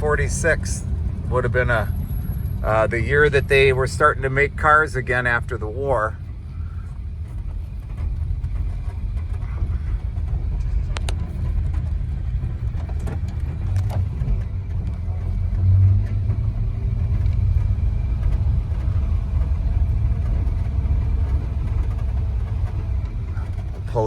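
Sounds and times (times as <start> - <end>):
car engine low rumble: 0.0 - 24.0
road noise: 0.0 - 24.0.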